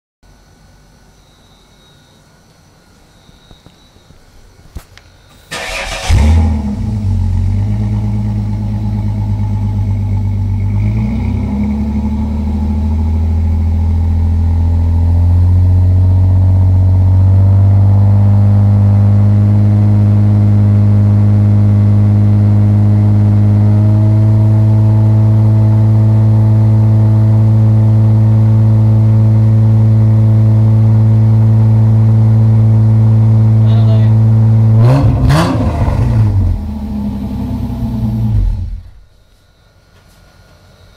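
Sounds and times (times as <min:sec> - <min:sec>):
car engine starting and idling: 0:05.4 - 0:39.3.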